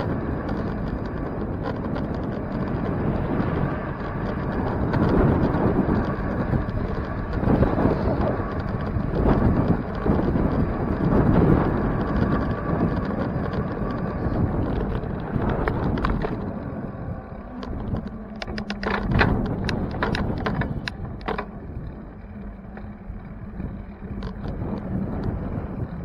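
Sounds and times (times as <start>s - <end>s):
road rumble: 0.0s - 26.0s
sharp clicks and rattles: 0.0s - 26.0s
wind noise: 0.0s - 26.0s.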